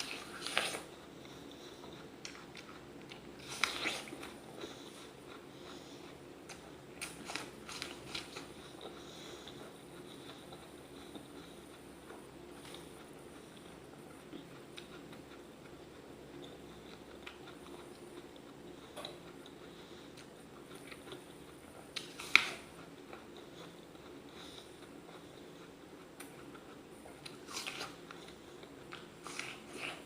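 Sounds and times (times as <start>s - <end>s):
apple crunching while chewed: 0.0s - 30.0s.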